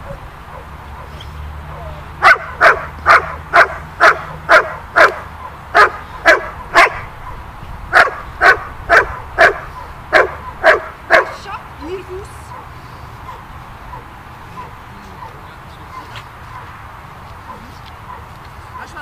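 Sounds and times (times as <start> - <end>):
dog barking: 0.1 - 1.3, 2.2 - 11.4, 12.5 - 16.8, 17.4 - 19.0.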